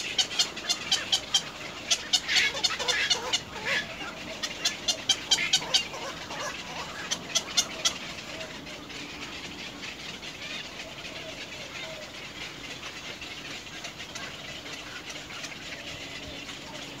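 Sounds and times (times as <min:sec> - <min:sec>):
small animal calls: 0:00.0 - 0:17.0.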